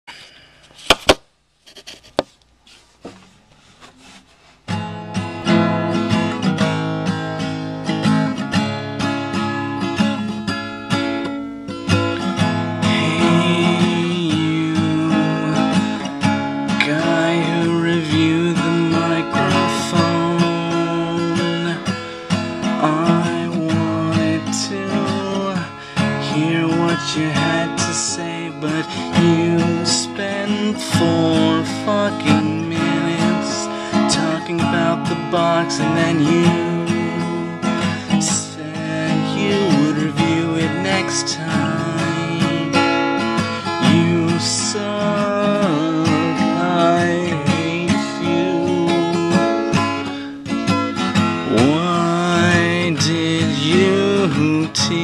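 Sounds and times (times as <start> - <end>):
acoustic guitar music: 3.1 - 55.0.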